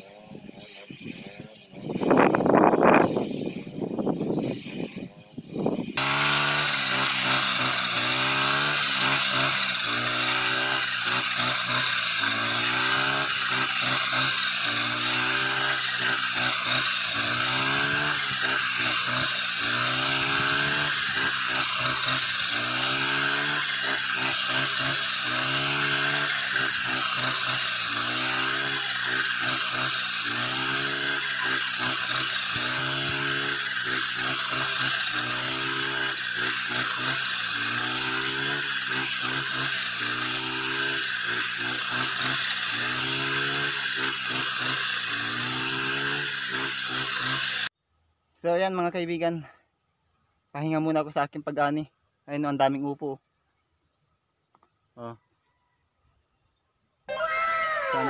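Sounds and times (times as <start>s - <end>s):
brush cutter engine cutting stalks: 0.0s - 47.8s, 57.1s - 58.0s.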